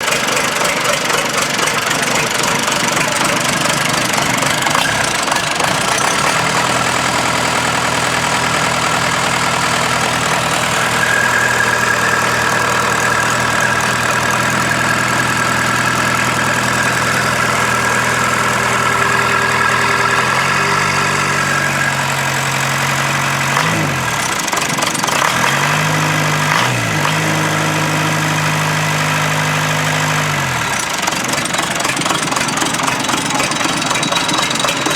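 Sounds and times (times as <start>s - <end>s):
diesel engine running and revving: 0.0s - 34.9s.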